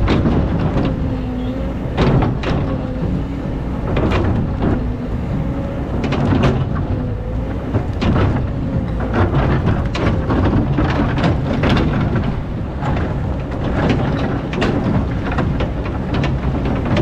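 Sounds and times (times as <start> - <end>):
clacks and scraping: 0.0 - 17.0
diesel engine under load: 0.0 - 17.0.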